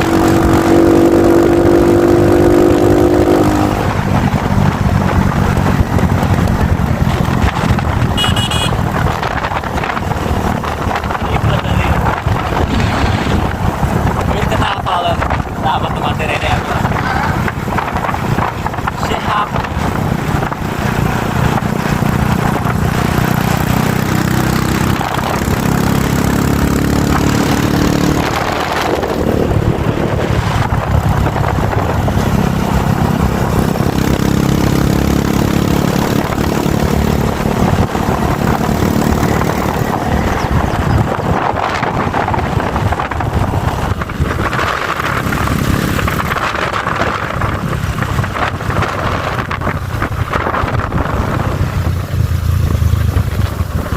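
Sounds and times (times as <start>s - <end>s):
motorcycle engine running: 0.0s - 53.9s
wind rush: 0.0s - 53.9s.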